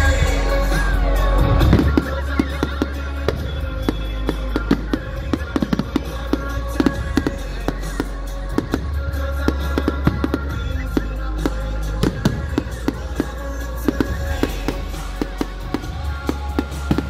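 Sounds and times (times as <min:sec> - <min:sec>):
fireworks crackling and popping: 0:00.0 - 0:17.0
song with steady bass: 0:00.0 - 0:17.0.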